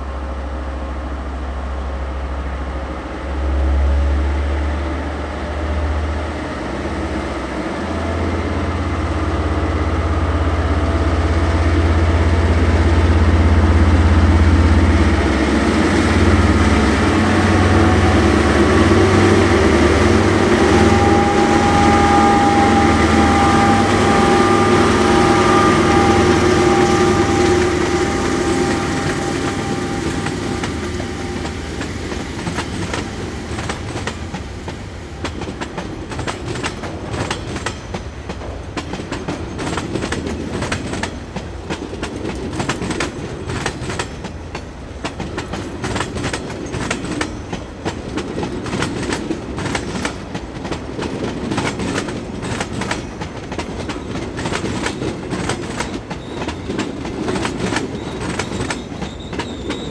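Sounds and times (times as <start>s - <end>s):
locomotive humming: 0.0s - 59.9s
train wheels clattering over rail joints: 7.4s - 59.9s.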